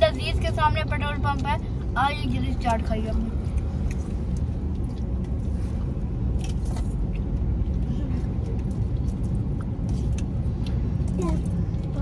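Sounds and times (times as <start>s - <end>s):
car engine rumble: 0.0s - 12.0s.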